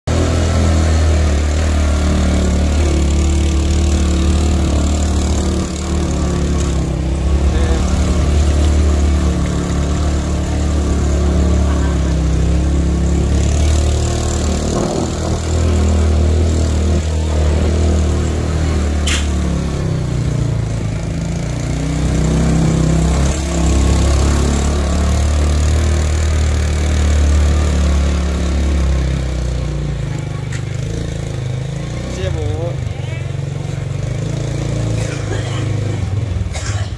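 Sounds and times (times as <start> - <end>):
small motorcycle engine running: 0.1 - 36.9.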